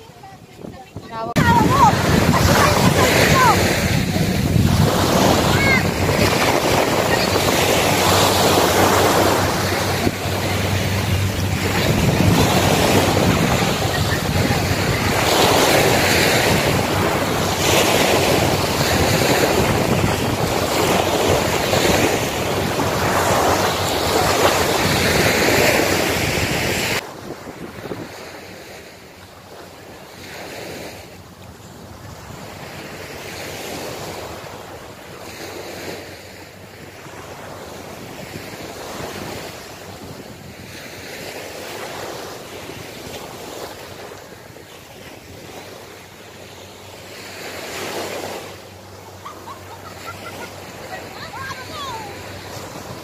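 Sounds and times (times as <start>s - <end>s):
wind on microphone: 0.0s - 29.1s, 31.6s - 53.0s
small waves breaking: 0.0s - 53.0s.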